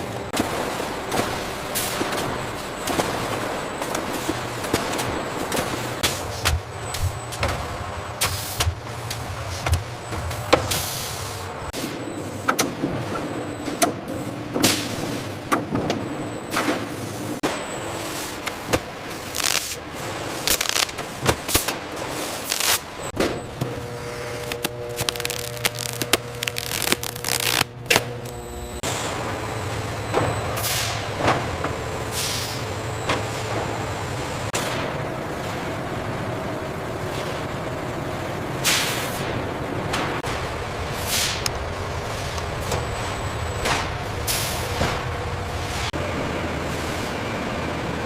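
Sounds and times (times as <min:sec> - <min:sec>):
machinery humming: 0:00.0 - 0:48.0.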